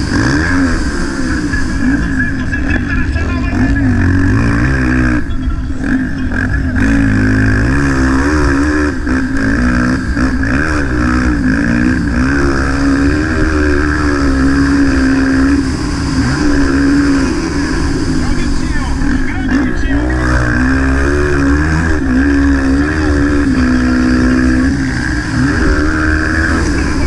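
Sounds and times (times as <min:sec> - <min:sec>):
motocross bike engine revving: 0:00.0 - 0:27.0
rush of noise: 0:00.0 - 0:27.0.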